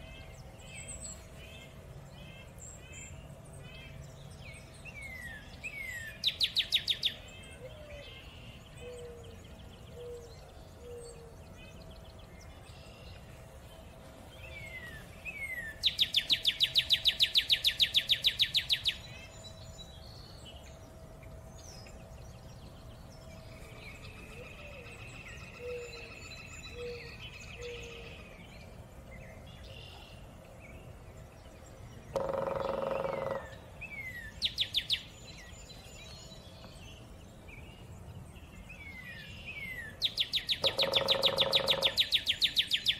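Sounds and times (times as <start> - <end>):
birds chirping softly: 0.0 - 42.9.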